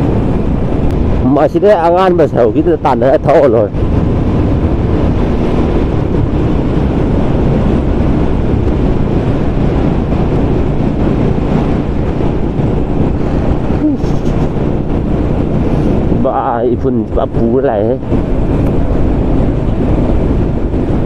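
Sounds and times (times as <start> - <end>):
road noise: 0.0 - 21.0
wind on microphone: 0.0 - 21.0
motorcycle engine: 3.7 - 21.0.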